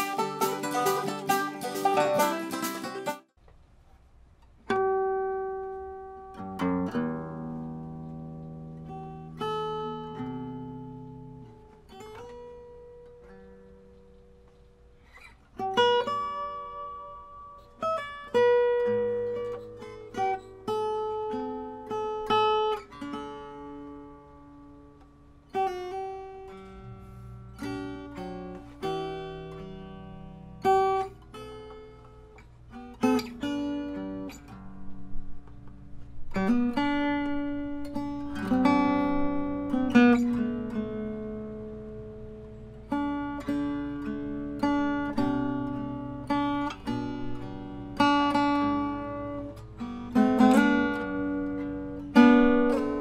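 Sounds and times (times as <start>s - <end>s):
acoustic guitar playing: 0.0s - 3.5s, 4.6s - 53.0s.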